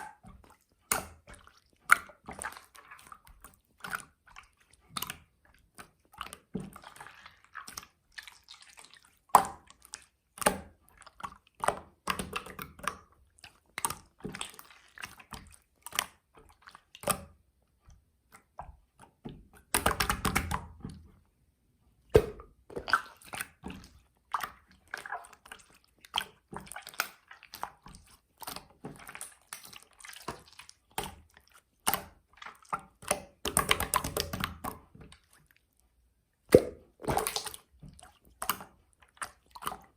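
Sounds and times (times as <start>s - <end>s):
slime squelching by hand: 0.0s - 21.3s, 22.0s - 39.9s.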